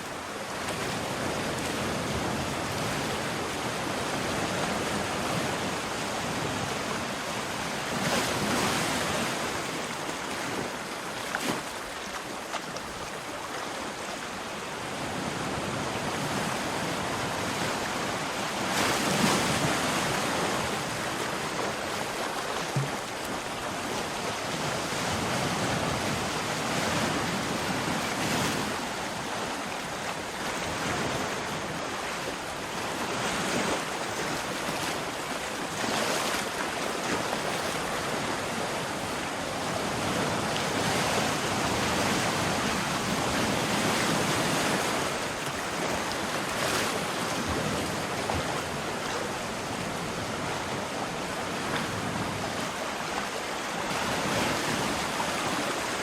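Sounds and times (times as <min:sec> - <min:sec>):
sea waves washing on shore: 0:00.0 - 0:56.0.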